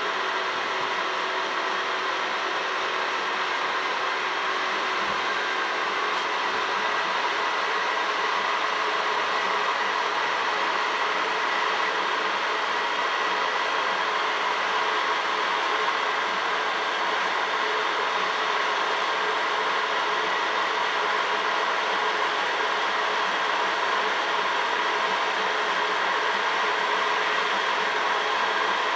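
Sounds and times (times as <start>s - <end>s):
printer fans and motors whirring: 0.0s - 28.9s.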